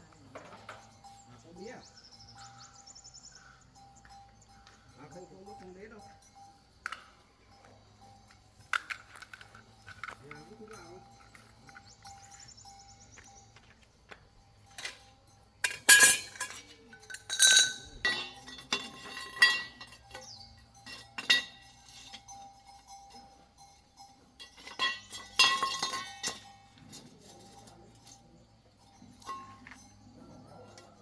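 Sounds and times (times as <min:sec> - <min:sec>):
metal tools clinking and clanking: 0:00.0 - 0:02.7, 0:03.4 - 0:13.6, 0:14.5 - 0:31.0.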